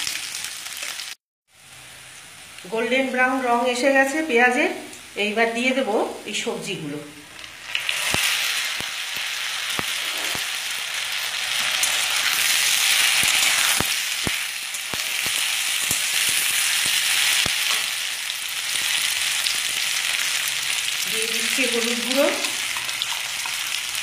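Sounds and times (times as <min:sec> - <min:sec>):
vegetables sizzling in oil: 0:00.0 - 0:06.5, 0:07.1 - 0:24.0.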